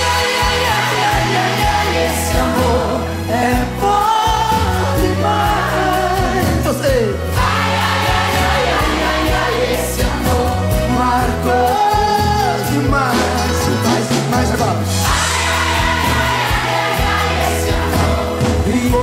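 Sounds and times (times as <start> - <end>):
bass: 0.0 - 19.0
drums with cymbals: 0.0 - 19.0.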